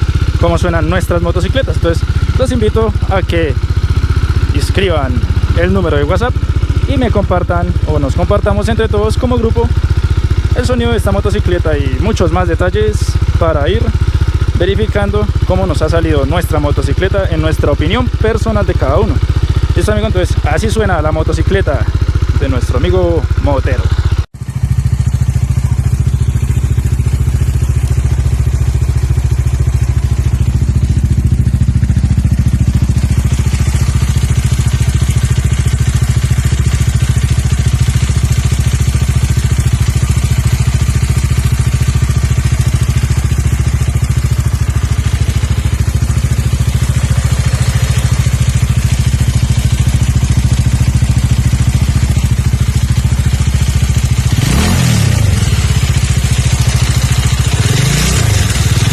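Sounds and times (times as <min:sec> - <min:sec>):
engine clatter: 0:00.0 - 0:58.9
motorcycle engine running: 0:00.0 - 0:58.9.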